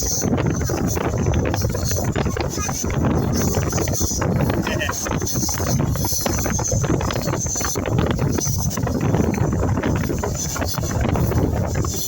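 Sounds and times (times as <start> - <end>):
train rumbling and rattling: 0.0 - 12.0
wind buffeting microphone: 0.0 - 12.0.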